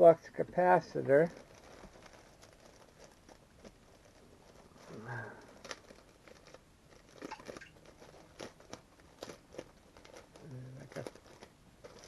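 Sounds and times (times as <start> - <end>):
packaging crinkling and clicking: 1.1 - 12.0.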